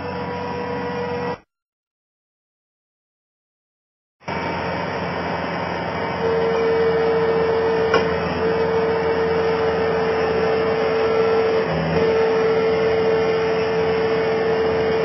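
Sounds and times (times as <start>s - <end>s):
loader engine running: 0.0s - 1.4s, 4.2s - 15.0s.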